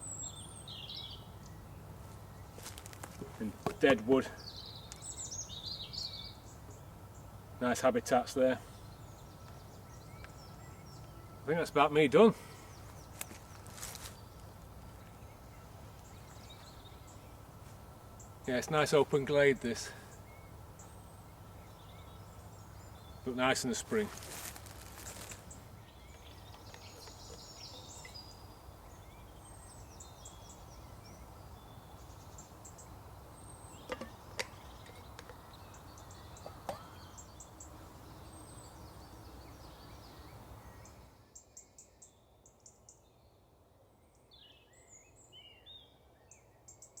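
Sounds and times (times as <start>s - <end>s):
small birds chirping: 0.0s - 47.0s
steady background hiss: 0.0s - 47.0s.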